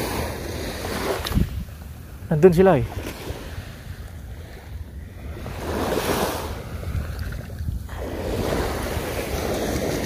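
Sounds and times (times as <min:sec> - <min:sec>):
small waves washing on shore: 0:00.0 - 0:10.0
wind rumble on microphone: 0:00.0 - 0:10.0.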